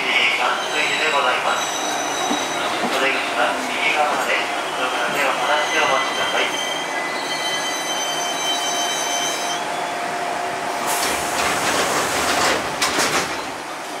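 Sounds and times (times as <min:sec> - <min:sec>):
train clacks and rattles: 0:00.0 - 0:09.6, 0:10.7 - 0:14.0
train rumble with thin whine: 0:00.0 - 0:14.0.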